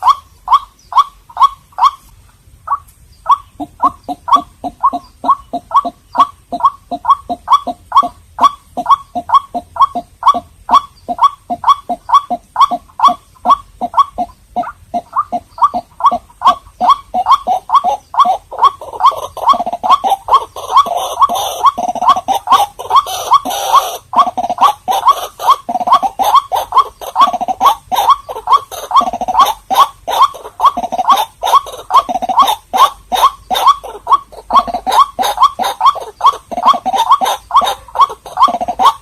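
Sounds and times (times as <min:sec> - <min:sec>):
waterhen croaking calls: 0:00.0 - 0:02.1, 0:02.7 - 0:39.0.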